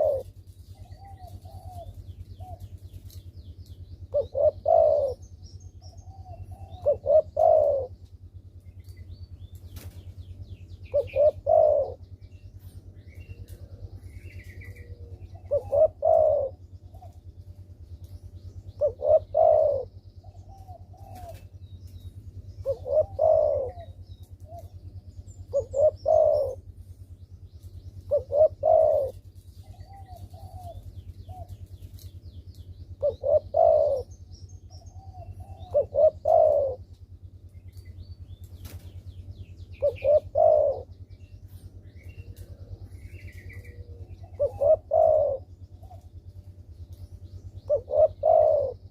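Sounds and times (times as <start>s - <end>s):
dove cooing: 0.0s - 8.5s, 9.8s - 37.4s, 38.6s - 48.9s
steady low hum: 0.0s - 48.9s.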